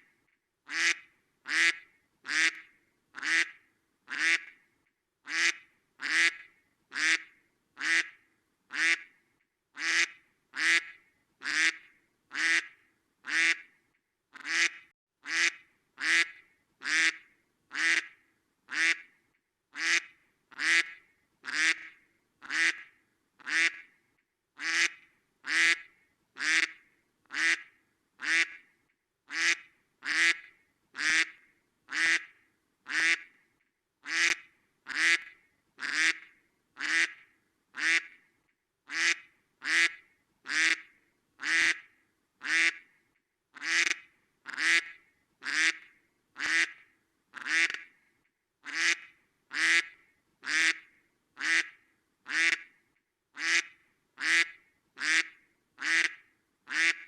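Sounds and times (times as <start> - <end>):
duck quacking: 0.7 - 4.5, 5.3 - 9.1, 9.8 - 13.7, 14.4 - 19.1, 19.8 - 23.9, 24.6 - 28.6, 29.3 - 32.3, 32.9 - 33.3, 34.0 - 37.2, 37.8 - 38.2, 38.9 - 42.8, 43.6 - 45.8, 46.4 - 46.8, 47.4 - 47.8, 48.6 - 50.8, 51.4 - 52.7, 53.4 - 57.0.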